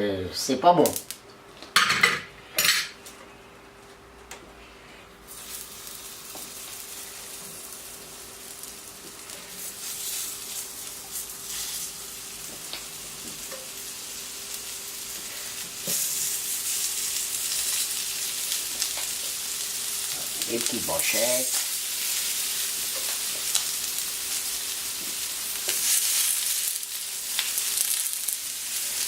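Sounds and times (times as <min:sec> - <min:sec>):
oil sizzling on a griddle: 0:05.2 - 0:29.0.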